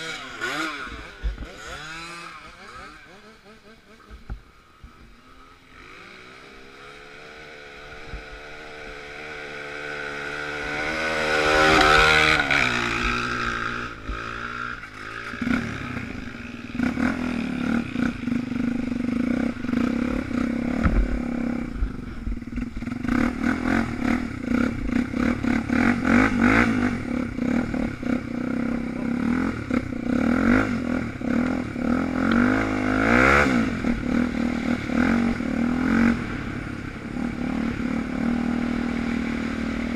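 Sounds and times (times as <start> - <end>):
off-road motorcycle engine: 0.0 - 39.9.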